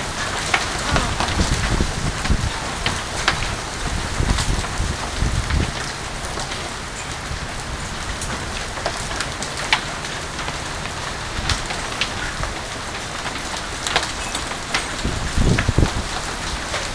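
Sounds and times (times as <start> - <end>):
hail and rain hissing: 0.0 - 16.9
hailstones clicking on hard surfaces: 0.0 - 16.9.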